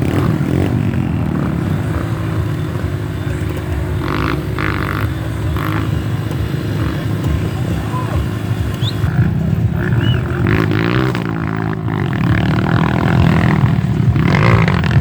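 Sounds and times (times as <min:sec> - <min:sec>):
engine revving bursts: 0:00.0 - 0:15.0
motorcycle engines running: 0:00.0 - 0:15.0.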